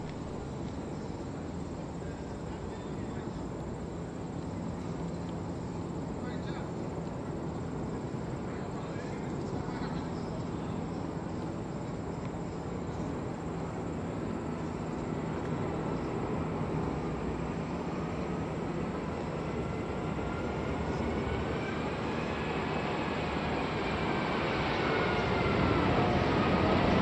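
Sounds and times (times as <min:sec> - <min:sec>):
jet engine whine: 0:00.0 - 0:27.0
jet engines rumbling: 0:00.0 - 0:27.0.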